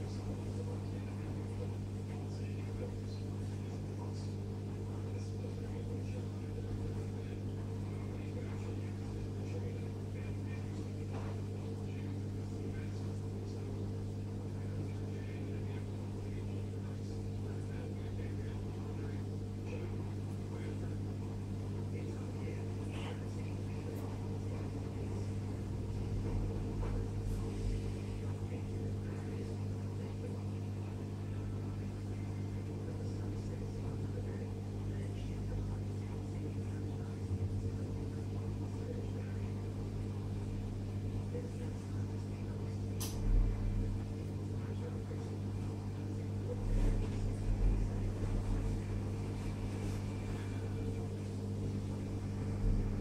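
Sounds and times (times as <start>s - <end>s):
aquarium pump humming: 0.0s - 53.0s.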